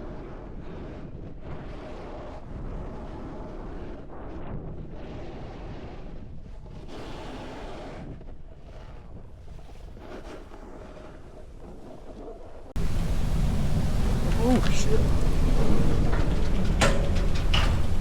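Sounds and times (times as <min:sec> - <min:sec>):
snowboard scraping over snow: 0:00.0 - 0:18.0
wind rushing over microphone: 0:00.0 - 0:18.0.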